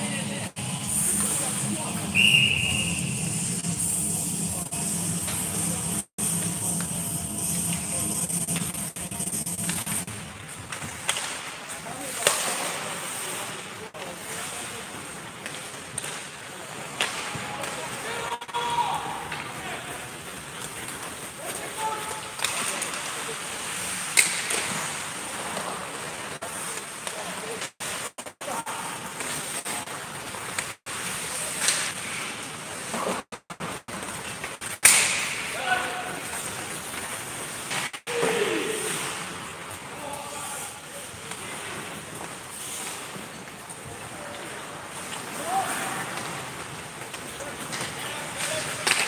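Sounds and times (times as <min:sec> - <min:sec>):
skates hissing on ice: 0:00.0 - 0:18.2, 0:18.8 - 0:49.0.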